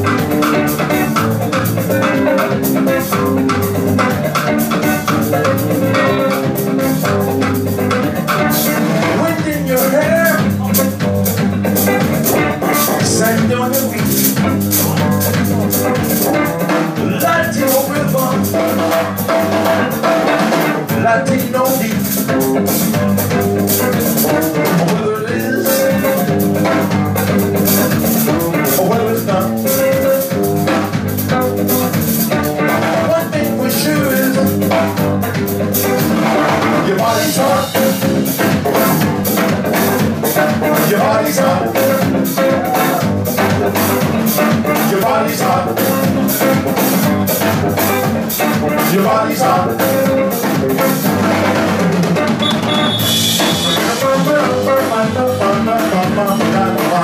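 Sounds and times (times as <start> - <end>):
drum kit: 0.0 - 57.0
electric bass: 0.0 - 57.0
electric guitar: 0.0 - 57.0.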